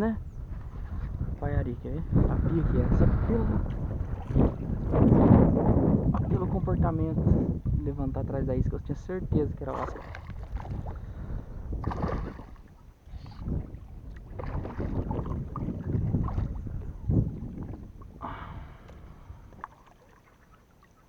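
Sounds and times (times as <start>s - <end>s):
water splashing: 2.2s - 7.8s, 9.4s - 21.0s.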